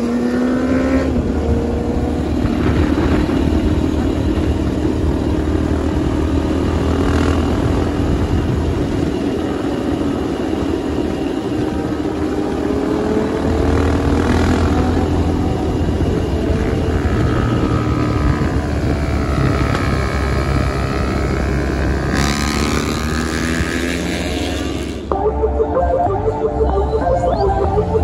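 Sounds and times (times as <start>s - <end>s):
motorcycle engine running: 0.0s - 25.2s
wind and road noise: 0.0s - 28.0s.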